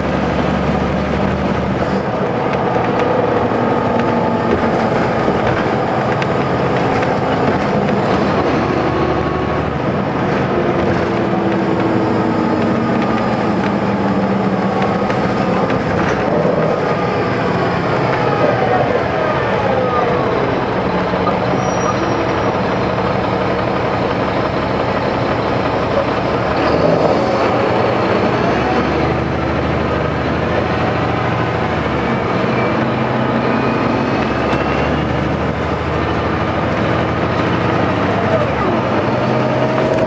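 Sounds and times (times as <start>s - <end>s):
diesel bus engine idling: 0.0s - 40.0s.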